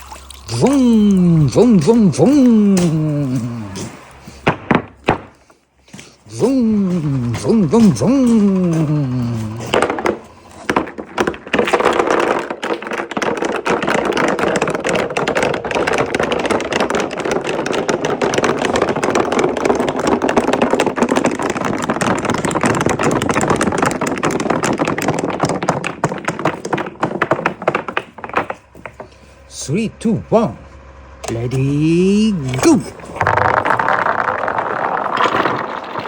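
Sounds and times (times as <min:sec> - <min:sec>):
marbles rolling and clattering: 0:00.0 - 0:36.0.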